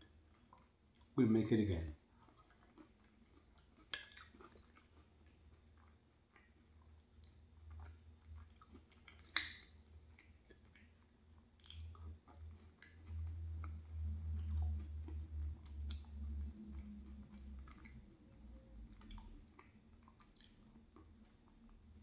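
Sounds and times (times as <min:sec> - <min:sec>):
close chewing: 0:00.0 - 0:22.0.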